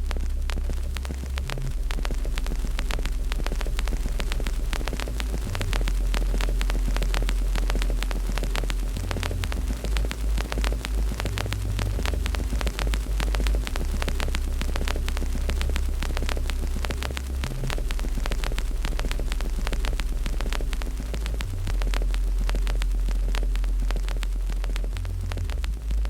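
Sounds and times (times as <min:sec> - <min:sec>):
loud deep hum: 0:00.0 - 0:26.0
wood fire crackling and popping: 0:00.0 - 0:26.0.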